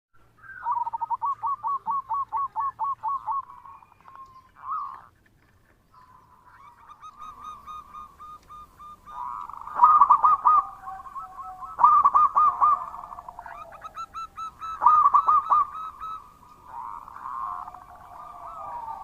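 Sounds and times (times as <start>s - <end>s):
dove cooing: 0.4s - 5.1s, 5.9s - 19.0s.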